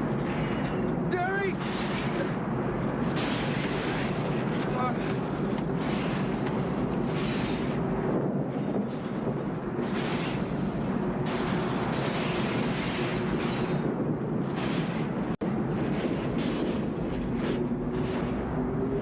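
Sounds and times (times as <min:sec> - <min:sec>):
faint low howl: 0:00.0 - 0:19.0.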